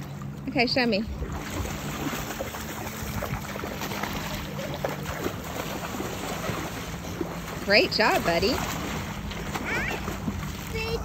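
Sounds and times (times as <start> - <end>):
small splashes of wading: 0.0 - 11.0
water wash: 0.0 - 11.0
wind: 0.0 - 11.0.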